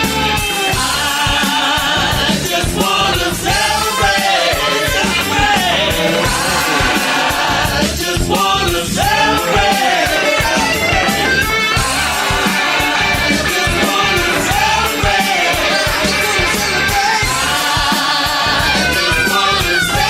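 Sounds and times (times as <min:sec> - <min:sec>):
steady drum beat: 0:00.0 - 0:20.0
upbeat rock song: 0:00.0 - 0:20.0
voices singing together: 0:00.0 - 0:20.0.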